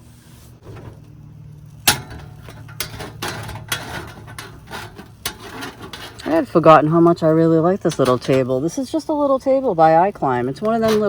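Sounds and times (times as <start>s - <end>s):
cooking gear clicking and knocking: 0.6s - 11.0s.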